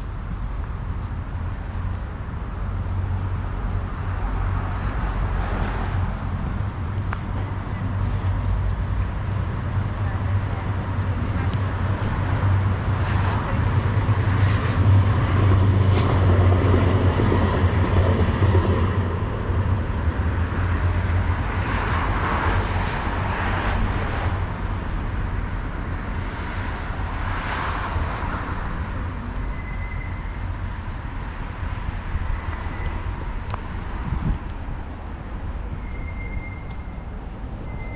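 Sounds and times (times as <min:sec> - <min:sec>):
cars passing: 0:00.0 - 0:37.9.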